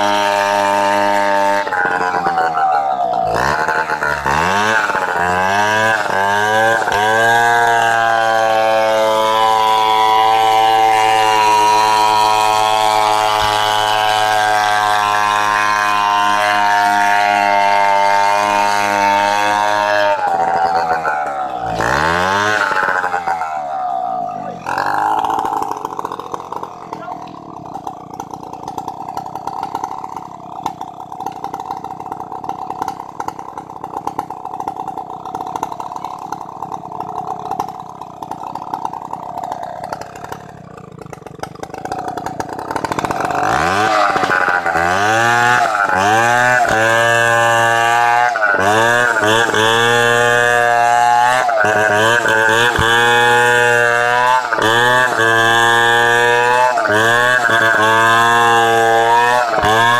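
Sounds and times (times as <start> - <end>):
chainsaw revving and cutting log: 0.0 - 59.9.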